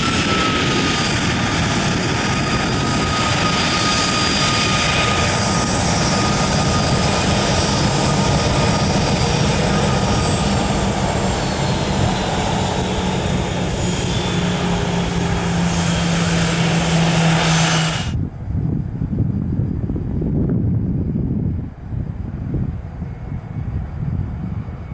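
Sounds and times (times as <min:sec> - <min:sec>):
jet engines roaring with whine: 0:00.0 - 0:24.9.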